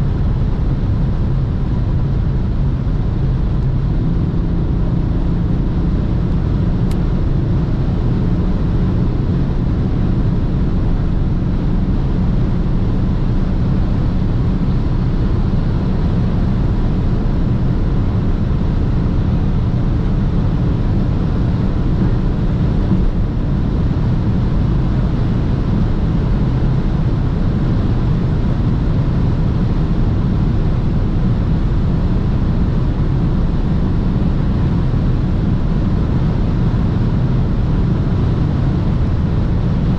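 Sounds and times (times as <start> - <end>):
diesel car engine droning: 0.0 - 39.9.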